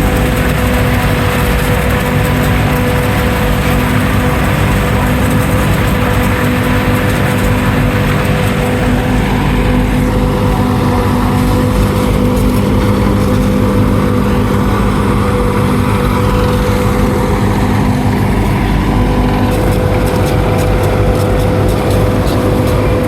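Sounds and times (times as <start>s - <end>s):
farm machinery engines droning: 0.0s - 23.0s.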